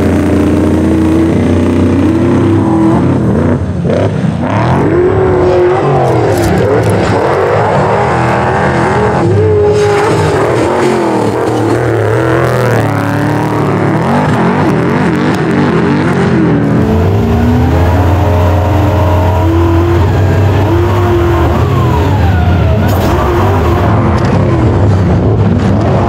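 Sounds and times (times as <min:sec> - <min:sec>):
low engine drone: 0:00.0 - 0:26.0
race vehicle engines revving: 0:00.0 - 0:26.0.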